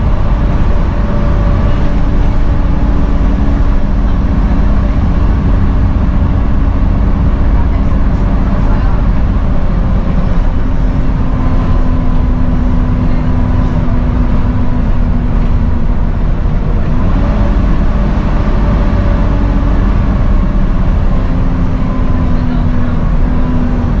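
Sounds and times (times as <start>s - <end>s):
bus diesel engine drone: 0.0s - 24.0s
engine whine: 0.0s - 24.0s.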